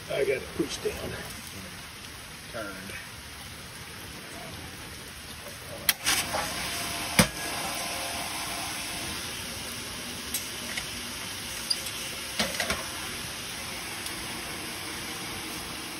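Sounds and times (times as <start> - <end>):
running water hiss: 0.0 - 15.9.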